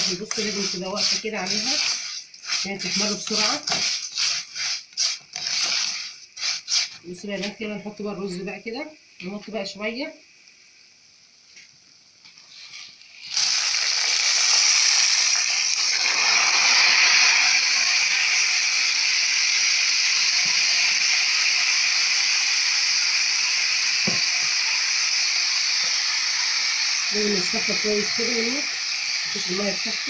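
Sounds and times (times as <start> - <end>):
rice sizzling in hot oil: 0.0 - 30.0.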